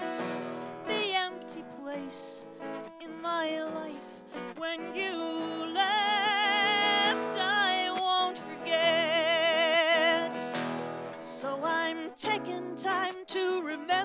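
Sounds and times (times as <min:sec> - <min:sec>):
person singing with vibrato: 0:00.0 - 0:14.0
strummed acoustic guitar: 0:00.0 - 0:14.0.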